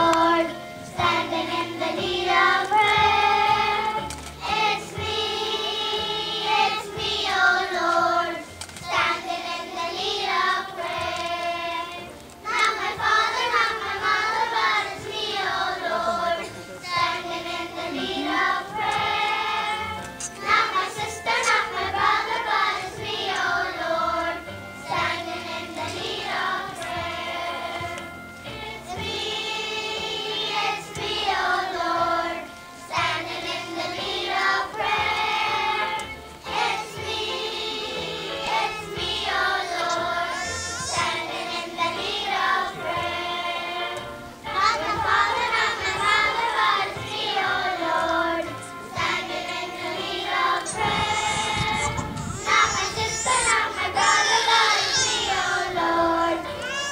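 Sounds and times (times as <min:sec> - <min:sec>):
children singing together: 0:00.0 - 0:56.9.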